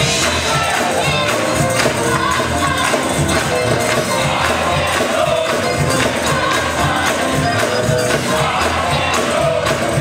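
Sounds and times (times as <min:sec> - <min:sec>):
band with steady beat: 0:00.0 - 0:10.0
choir singing: 0:00.0 - 0:10.0.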